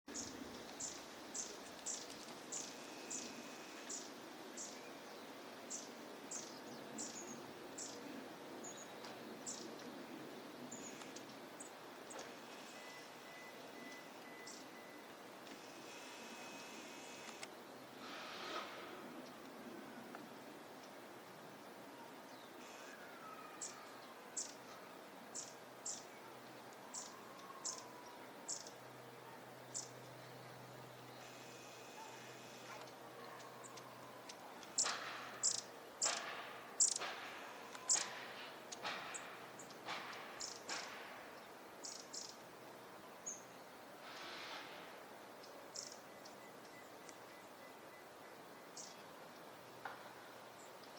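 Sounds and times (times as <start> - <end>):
birds high thin calls: 0.1 - 20.0, 21.8 - 49.6
low background noise: 0.1 - 50.9.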